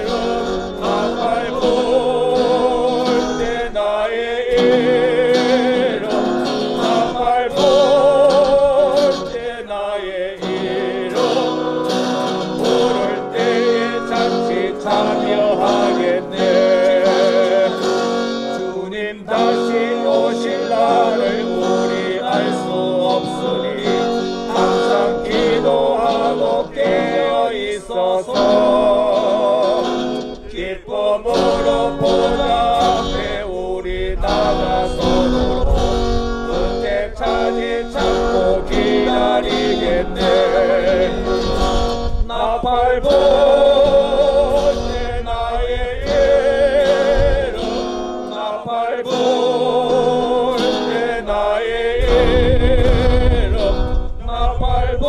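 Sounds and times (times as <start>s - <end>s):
group singing a hymn: 0.0s - 55.0s
strummed acoustic guitar: 0.0s - 55.0s.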